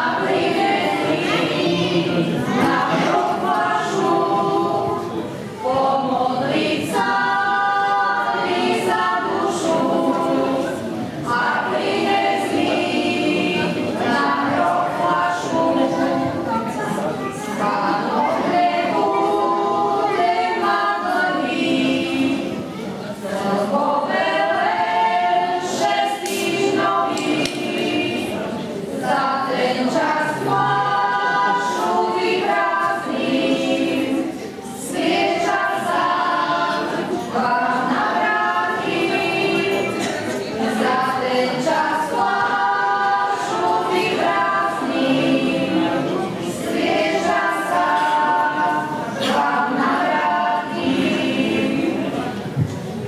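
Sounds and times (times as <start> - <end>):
group singing unaccompanied: 0.0 - 53.0.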